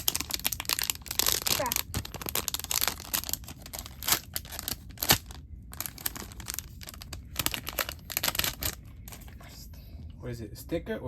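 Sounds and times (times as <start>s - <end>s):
packaging crinkling and tearing: 0.0s - 9.4s.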